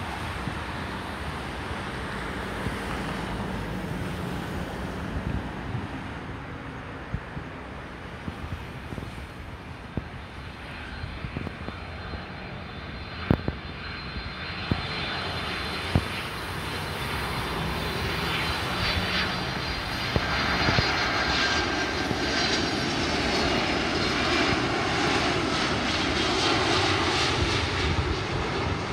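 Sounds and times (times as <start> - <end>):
jet engines whining and rumbling: 0.0 - 28.9.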